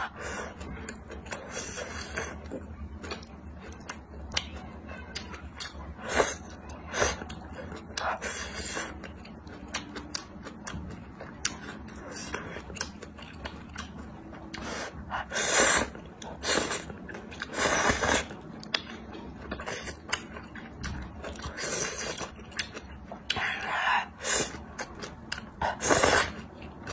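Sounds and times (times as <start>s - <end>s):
chewing and mouth sounds: 0.0s - 26.9s.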